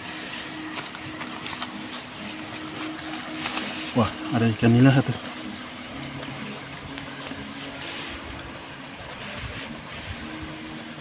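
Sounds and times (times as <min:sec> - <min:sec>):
distant engine hum: 0:00.0 - 0:11.0.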